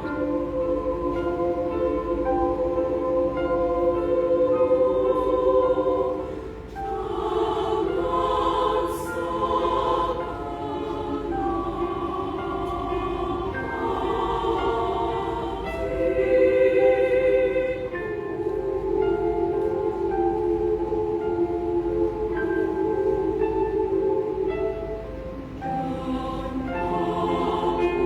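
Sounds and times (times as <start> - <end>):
women's choir singing: 0.0 - 28.0.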